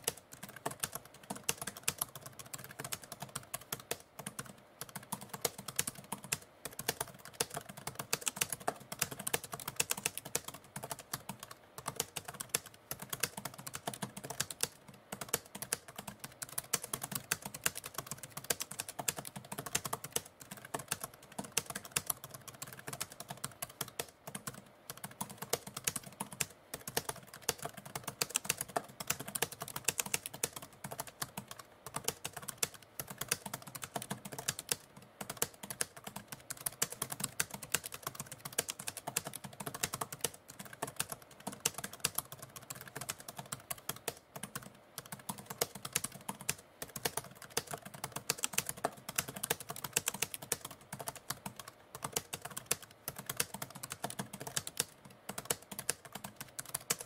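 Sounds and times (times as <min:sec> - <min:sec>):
typewriter keys typing: 0:00.0 - 0:57.0.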